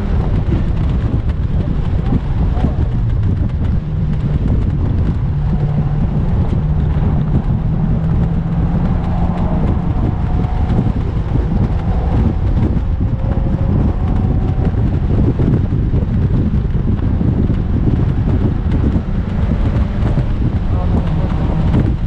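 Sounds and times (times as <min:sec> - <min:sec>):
car engine running: 0:00.0 - 0:22.0
wind buffeting on microphone: 0:00.0 - 0:22.0.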